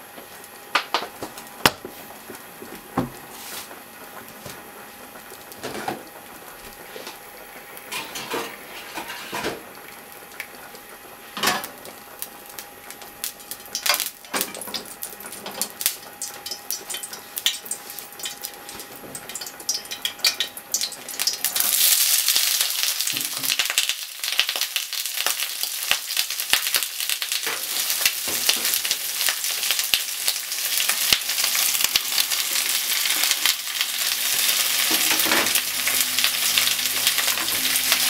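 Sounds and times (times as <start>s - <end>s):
onions sizzling in hot oil: 1.4s - 38.0s.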